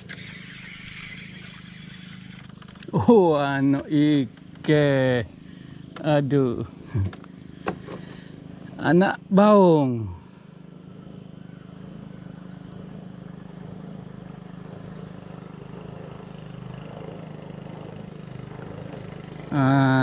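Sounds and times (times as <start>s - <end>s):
small engine droning: 0.0s - 20.0s.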